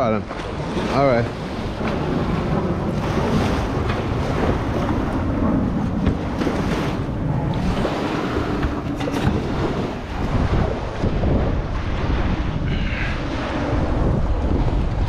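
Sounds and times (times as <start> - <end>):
small surf on beach: 0.0 - 15.0
wind buffeting microphone: 0.0 - 15.0.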